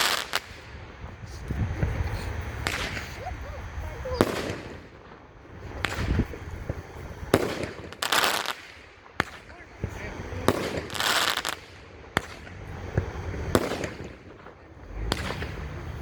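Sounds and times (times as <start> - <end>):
fireworks cake firing bangs: 0.0 - 16.0
fireworks crackling: 0.0 - 16.0.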